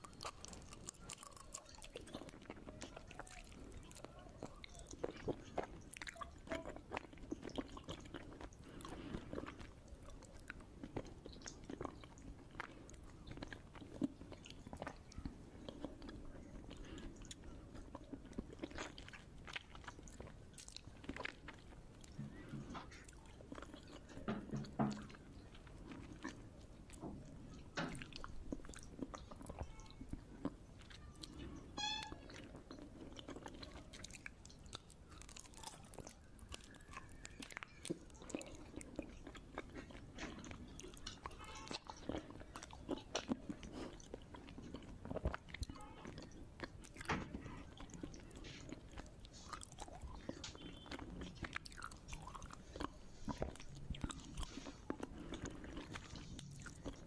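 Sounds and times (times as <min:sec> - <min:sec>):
mouth clicks and smacks: 0:00.0 - 0:57.0
person chewing wetly: 0:00.0 - 0:57.0.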